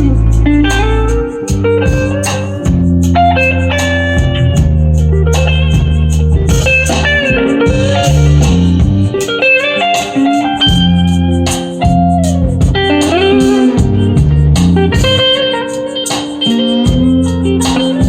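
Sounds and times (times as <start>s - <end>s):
bass and drums: 0.0s - 18.0s
electric guitar lead: 0.0s - 18.0s.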